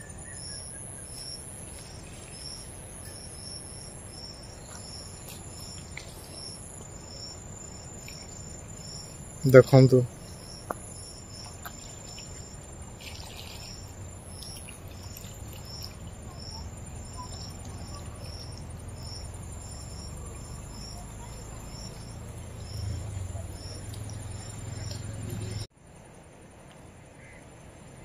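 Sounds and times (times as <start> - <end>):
cricket chirping: 0.0 - 28.0
low steady rumble: 0.1 - 25.7.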